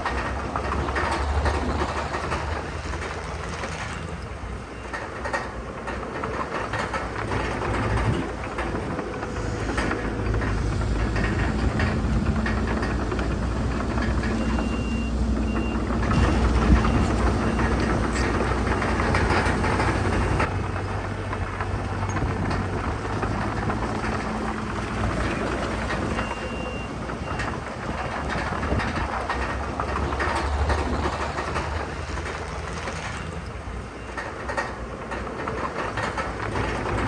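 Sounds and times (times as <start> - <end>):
dense clanking and rattling: 0.0 - 37.0
diesel machinery engines running: 0.0 - 37.0.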